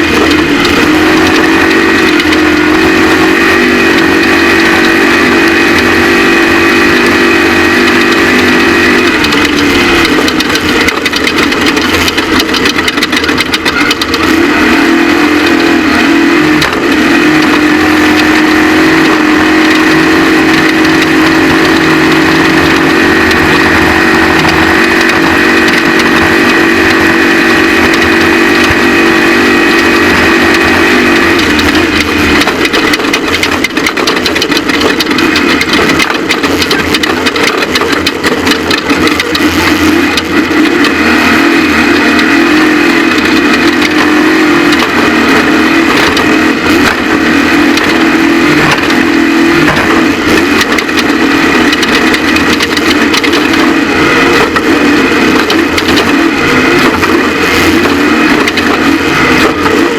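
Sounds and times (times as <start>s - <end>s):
constant rushing noise: 0.0s - 59.9s
race vehicle engine revving: 0.0s - 59.9s.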